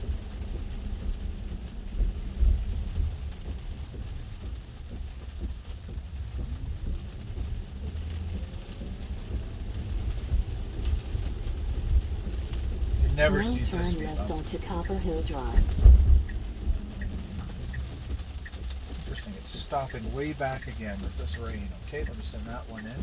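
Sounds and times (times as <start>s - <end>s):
road and rain noise rumble: 0.0s - 23.0s.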